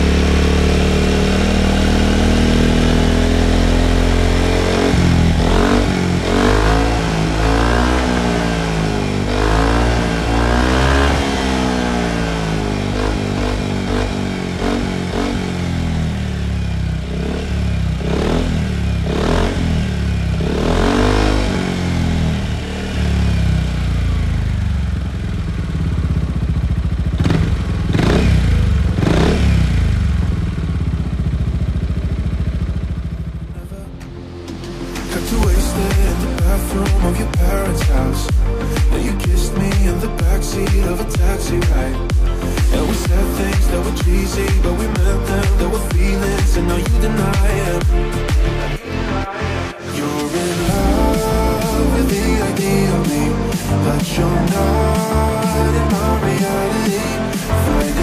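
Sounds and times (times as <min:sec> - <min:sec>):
scooter engine revving: 0:00.0 - 0:58.0.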